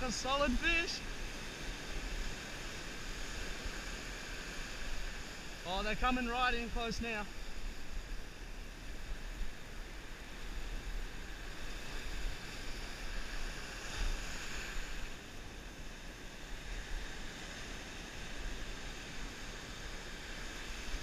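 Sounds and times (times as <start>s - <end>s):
surf washing up beach: 0.0s - 21.0s.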